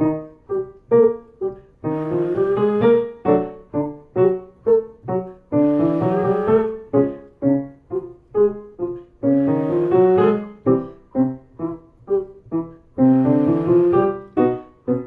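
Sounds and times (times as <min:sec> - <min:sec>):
piano note patterns: 0:00.0 - 0:15.0.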